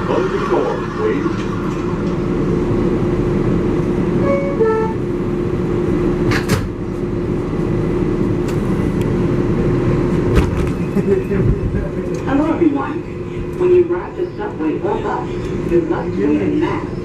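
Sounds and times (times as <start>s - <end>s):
subway train rumble and hum: 0.0s - 17.0s.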